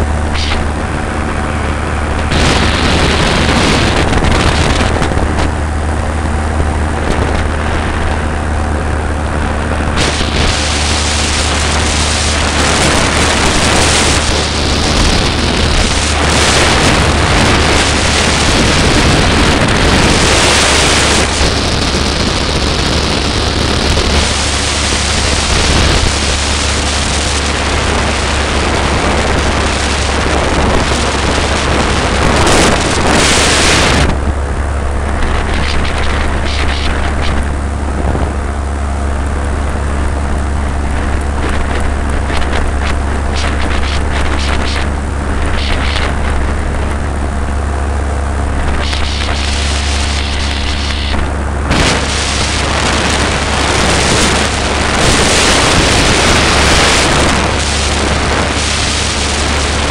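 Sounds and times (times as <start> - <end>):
paramotor engine drone: 0.0 - 59.9
wind buffeting microphone: 0.0 - 59.9.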